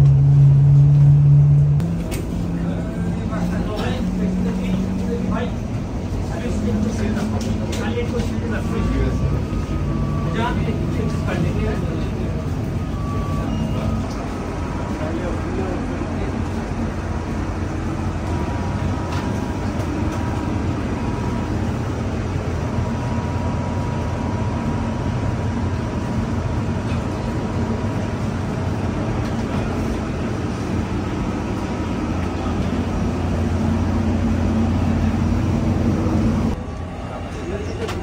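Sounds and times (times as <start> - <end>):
low mechanical drone: 0.0 - 38.0.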